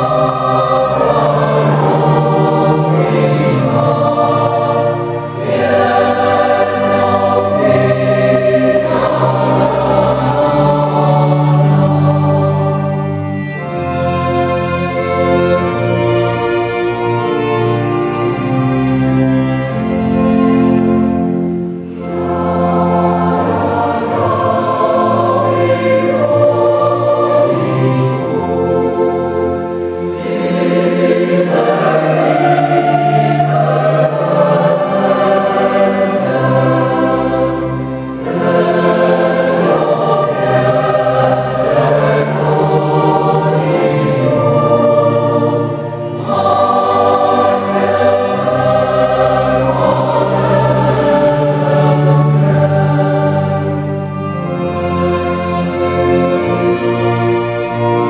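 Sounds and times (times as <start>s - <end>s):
mixed choir singing: 0.0s - 58.0s
string orchestra: 0.0s - 58.0s.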